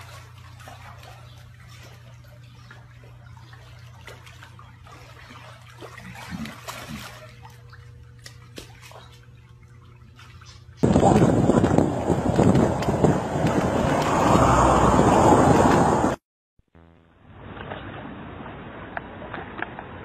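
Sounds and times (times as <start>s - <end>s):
pool water sloshing and dripping: 0.0s - 16.0s, 17.5s - 20.0s
steady low hum: 0.0s - 16.2s, 16.8s - 19.2s.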